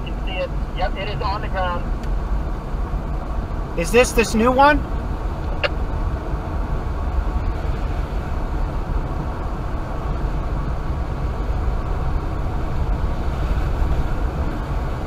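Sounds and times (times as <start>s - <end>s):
car driving on wet road: 0.0s - 15.0s.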